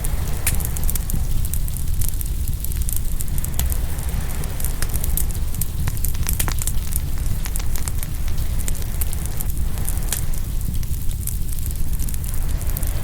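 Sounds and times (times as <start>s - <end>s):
ocean surf: 0.0s - 13.0s
wood fire crackling and popping: 0.0s - 13.0s.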